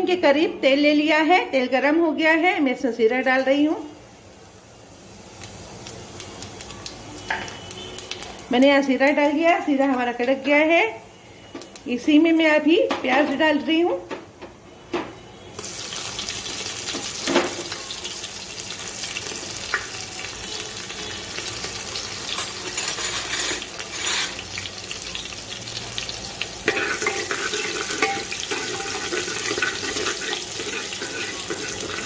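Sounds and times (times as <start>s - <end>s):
onion sizzling in hot oil: 1.8s - 13.9s, 15.5s - 32.0s.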